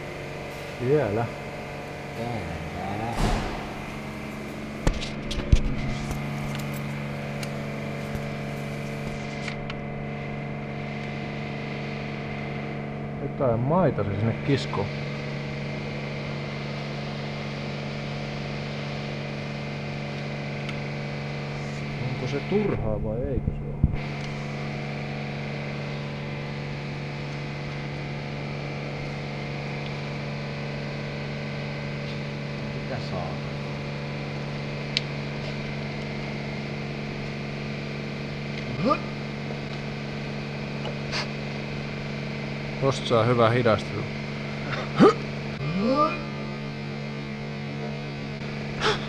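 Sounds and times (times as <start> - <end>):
machine hum: 0.0 - 49.0.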